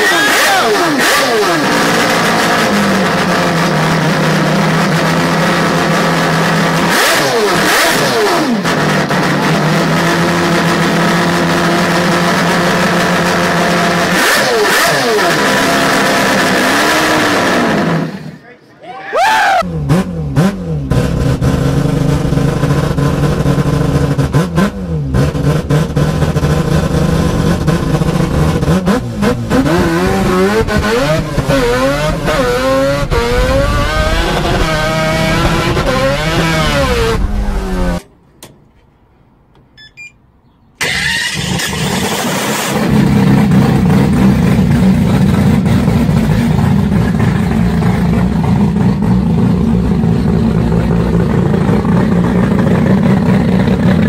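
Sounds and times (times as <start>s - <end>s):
loud turbocharged engine running: 0.0s - 18.4s, 19.7s - 38.1s, 41.4s - 54.0s
race car engine revving: 0.0s - 18.4s, 19.5s - 38.1s, 40.8s - 54.0s.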